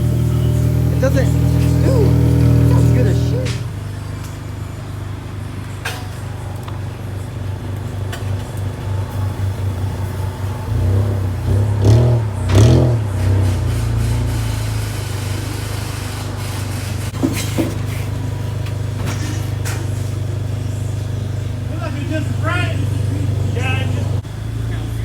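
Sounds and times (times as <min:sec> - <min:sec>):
car engine exhaust drone: 0:00.0 - 0:25.0.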